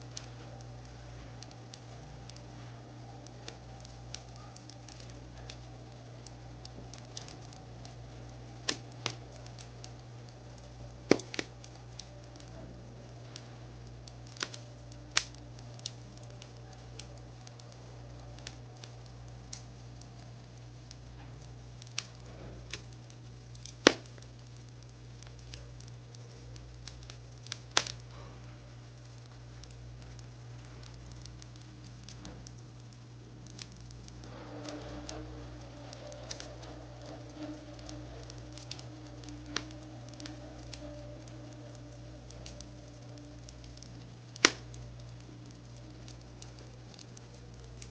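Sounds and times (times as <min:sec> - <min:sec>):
steady low hum: 0:00.0 - 0:47.9
wood fire crackling: 0:00.0 - 0:47.9.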